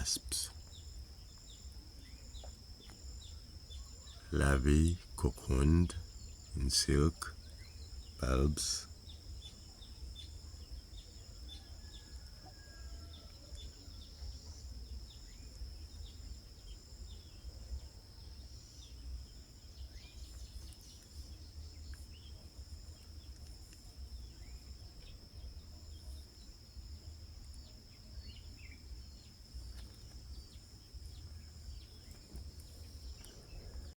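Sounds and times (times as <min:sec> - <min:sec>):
high-pitched insect trill: 0:00.0 - 0:33.9.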